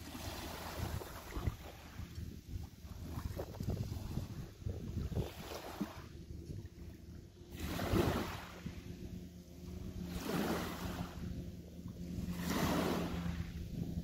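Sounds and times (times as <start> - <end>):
small waves washing onto shore: 0.0 - 14.0.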